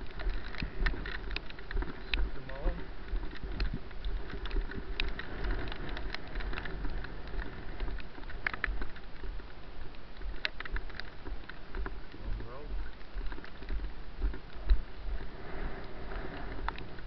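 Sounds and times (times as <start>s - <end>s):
crackles from body-worn camera: 0.0s - 17.0s
wind buffeting rumble: 0.0s - 17.0s.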